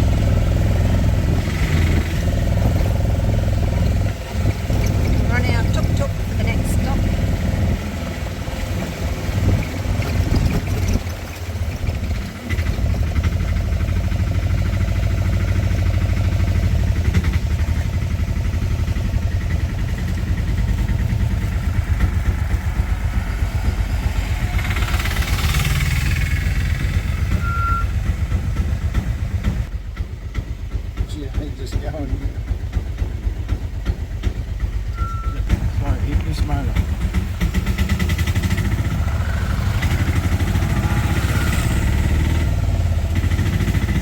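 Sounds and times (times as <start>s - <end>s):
auto-rickshaw engine running: 0.0s - 44.0s.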